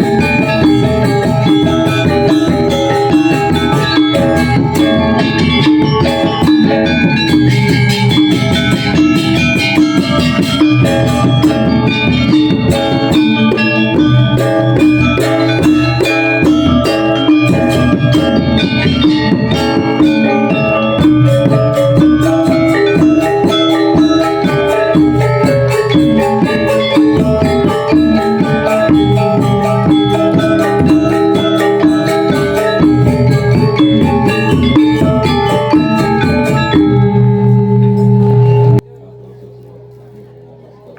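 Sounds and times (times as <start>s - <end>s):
gamelan metallophones ringing: 0.0s - 40.0s
low gong and drum: 0.0s - 40.8s.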